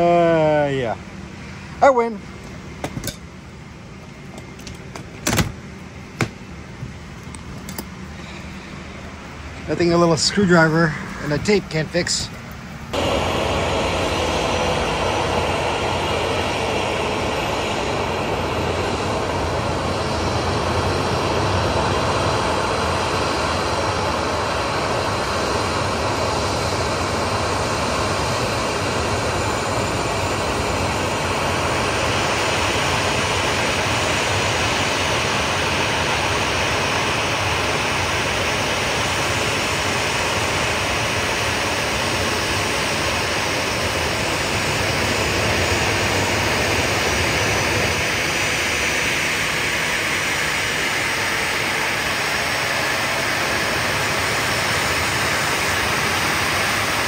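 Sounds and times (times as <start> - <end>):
faint high whine: 0.0 - 57.0
jet turbine rushing: 0.0 - 57.0.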